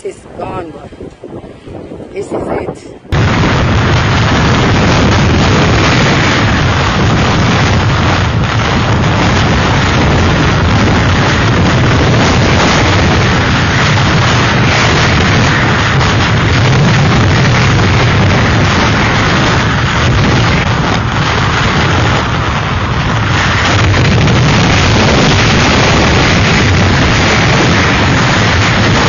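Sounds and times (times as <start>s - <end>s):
strong wind roaring: 0.0s - 29.0s.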